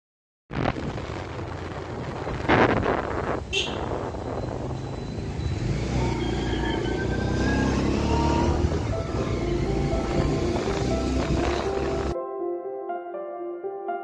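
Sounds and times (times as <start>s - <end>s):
engine and road rumble: 0.5s - 12.2s.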